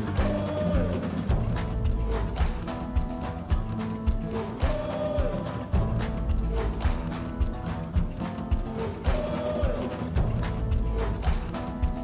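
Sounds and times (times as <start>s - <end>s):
bass pulse: 0.0s - 12.0s.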